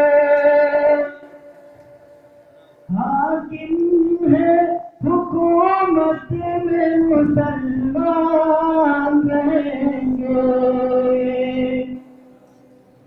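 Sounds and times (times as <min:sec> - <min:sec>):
person singing melody: 0:00.0 - 0:12.2.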